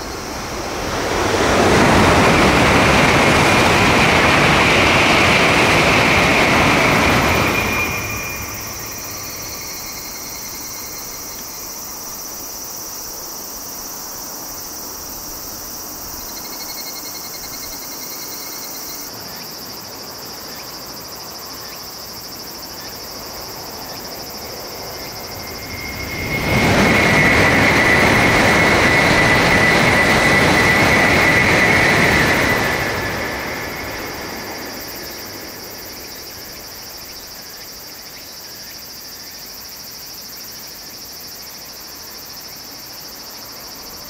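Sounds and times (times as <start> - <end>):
high-speed train rushing past: 0.0 - 19.3, 22.5 - 44.0
insect calls: 0.0 - 44.0.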